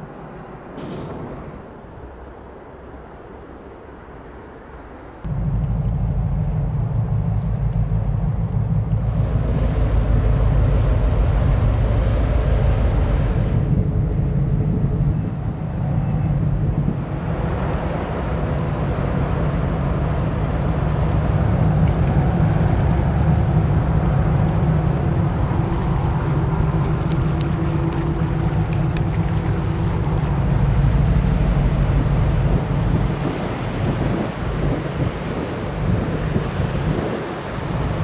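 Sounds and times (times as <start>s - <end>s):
wind buffeting microphone: 5.2s - 38.0s.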